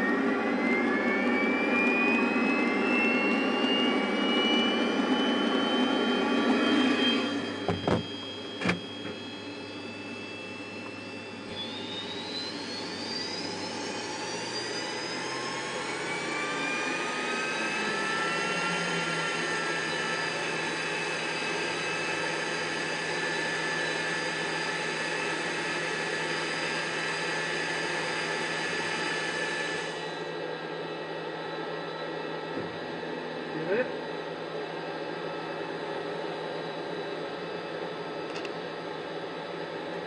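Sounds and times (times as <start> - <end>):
jet engine whine: 0.0 - 40.0.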